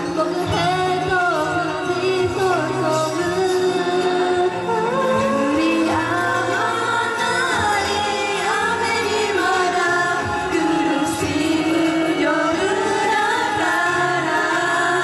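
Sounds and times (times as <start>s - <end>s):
women singing into microphones: 0.0s - 15.0s.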